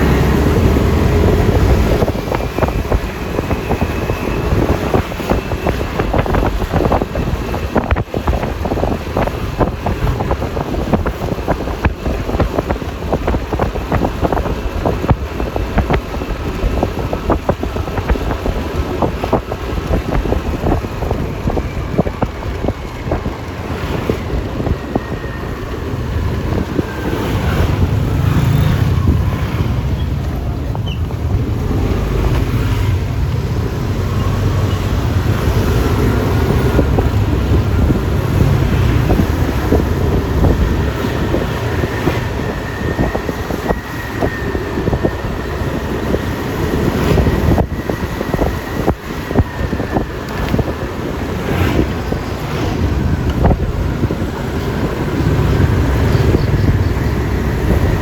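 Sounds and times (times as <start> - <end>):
road and traffic noise: 0.0 - 58.0
wind buffeting microphone: 0.0 - 58.0.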